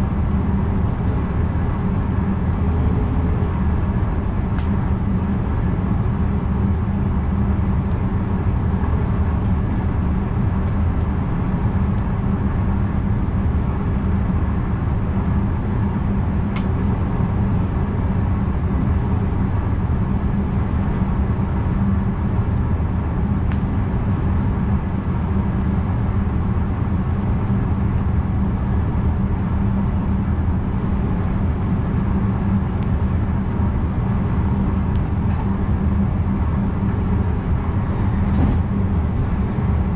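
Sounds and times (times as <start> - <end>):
electric train rumble: 0.0 - 39.9.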